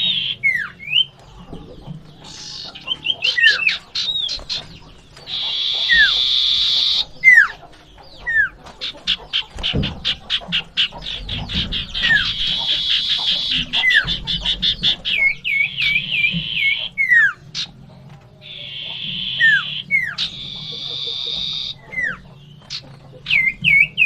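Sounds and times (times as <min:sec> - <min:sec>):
bird singing varied song: 0:00.0 - 0:24.0.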